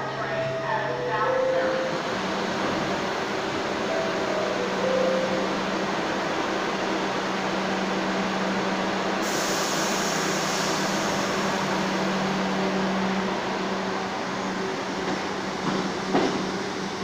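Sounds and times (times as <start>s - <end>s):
subway train humming: 0.0s - 17.0s
train moving off: 0.0s - 17.0s.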